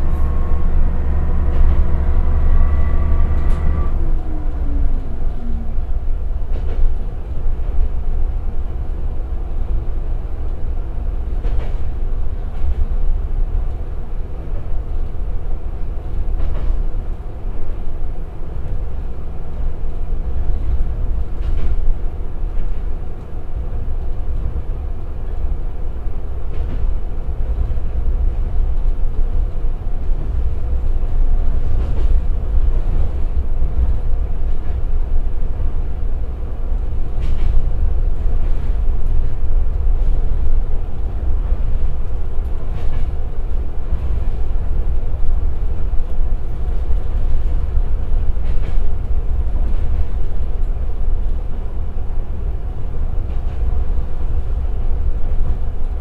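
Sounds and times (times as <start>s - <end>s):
rail joints clacking: 0.0s - 56.0s
train engine and wheels rumbling: 0.0s - 56.0s.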